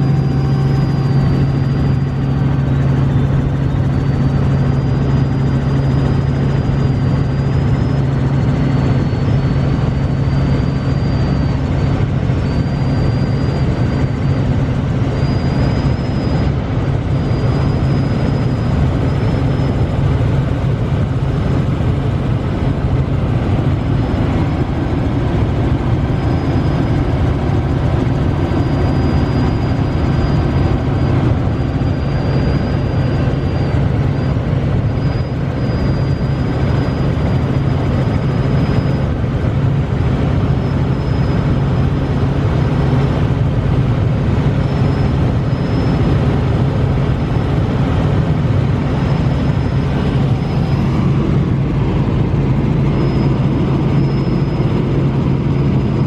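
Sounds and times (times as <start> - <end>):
faint high whine: 0.0 - 56.0
helicopter engine and rotor drone: 0.0 - 56.0.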